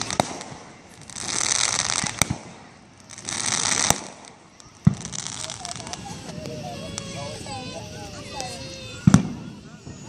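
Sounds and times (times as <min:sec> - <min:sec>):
fireworks sharp bang: 0:00.0 - 0:07.1, 0:08.3 - 0:10.0
fireworks crackling: 0:00.0 - 0:10.0.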